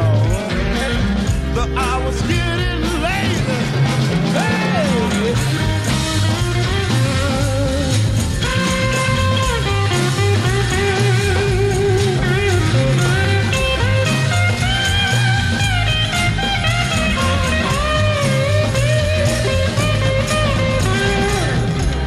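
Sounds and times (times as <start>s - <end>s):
bass and drums: 0.0s - 22.0s
electric guitar solo: 0.0s - 22.0s.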